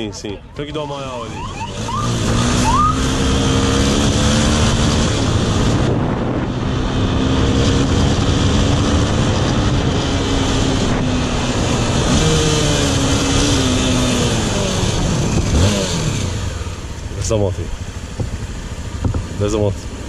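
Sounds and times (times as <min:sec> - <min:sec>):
wind and road noise: 0:00.0 - 0:20.0
motorcycle engine running: 0:01.4 - 0:20.0.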